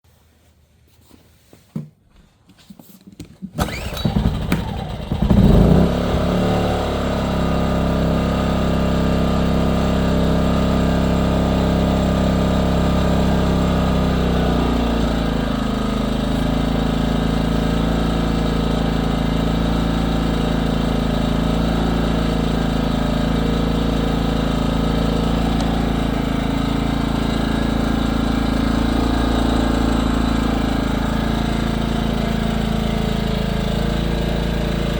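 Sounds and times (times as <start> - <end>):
generator engine running: 3.6 - 34.9.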